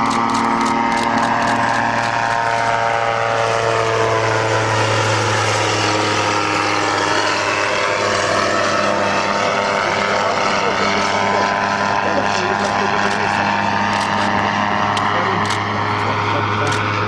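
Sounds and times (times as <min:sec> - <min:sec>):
gyroplane engine and propeller droning: 0:00.0 - 0:17.0.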